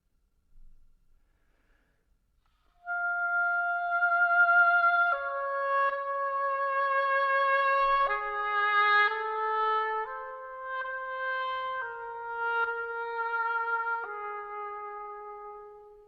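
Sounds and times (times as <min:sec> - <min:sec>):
oboe playing held notes: 0:02.8 - 0:16.0.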